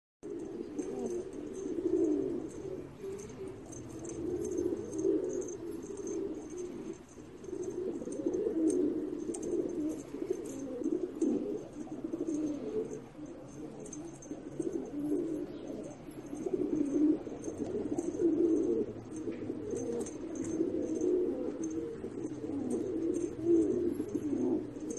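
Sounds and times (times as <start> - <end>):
pigeons cooing: 0.2 - 24.9.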